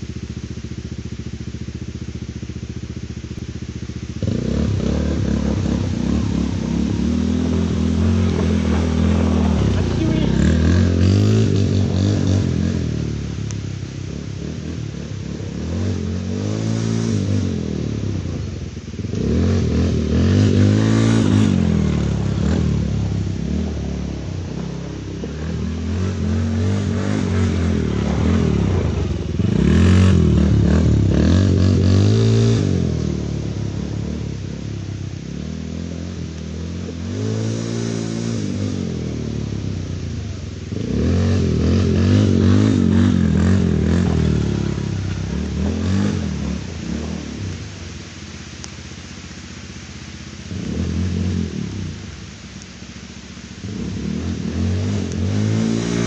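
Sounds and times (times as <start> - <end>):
quad engine revving: 0.0 - 48.7, 49.8 - 52.1, 53.6 - 56.0.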